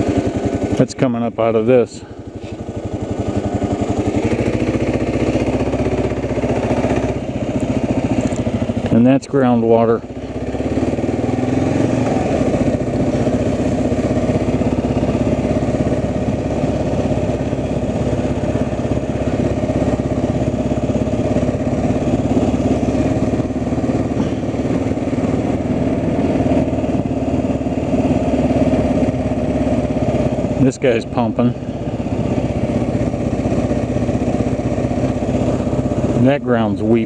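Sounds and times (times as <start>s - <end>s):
engine running steadily: 0.0s - 37.0s.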